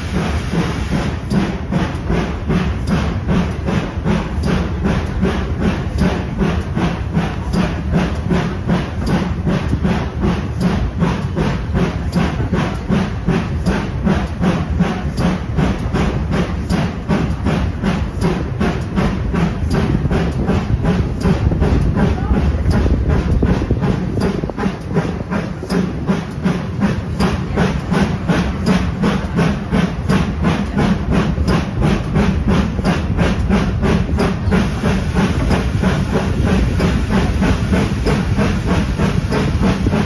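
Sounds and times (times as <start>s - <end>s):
steam locomotive chuffing: 0.0s - 40.0s
train rumble: 0.0s - 40.0s.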